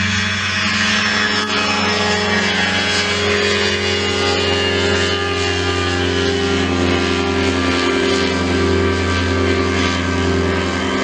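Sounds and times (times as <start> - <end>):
aircraft engine and propeller: 0.0 - 11.0.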